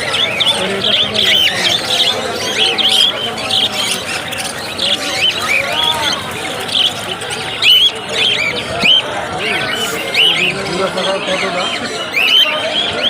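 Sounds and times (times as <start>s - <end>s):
caged birds chirping and squawking: 0.0s - 13.0s.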